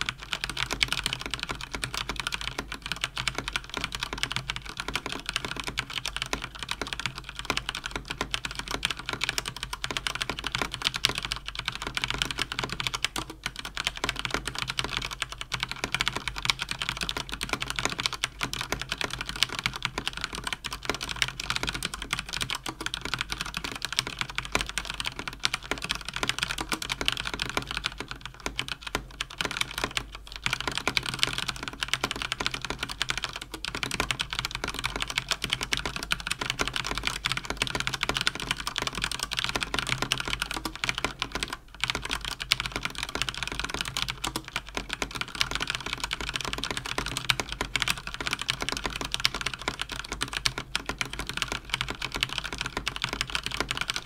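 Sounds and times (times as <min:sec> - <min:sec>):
fast typing on mechanical keyboard: 0:00.0 - 0:54.0.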